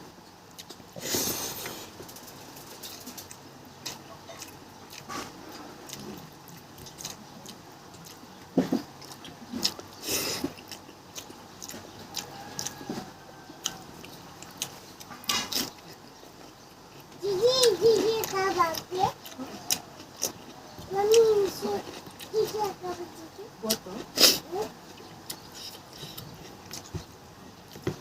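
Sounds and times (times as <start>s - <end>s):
person chewing: 0.5s - 2.4s, 3.0s - 22.7s, 24.0s - 27.9s.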